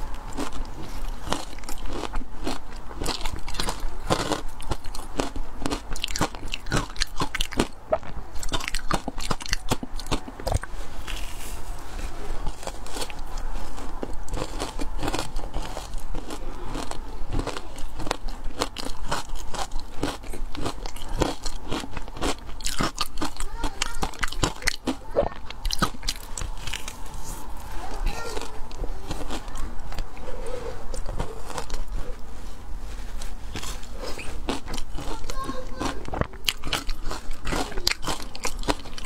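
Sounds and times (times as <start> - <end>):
crunching frozen ice: 0.0 - 30.2, 30.8 - 32.4, 33.1 - 39.0.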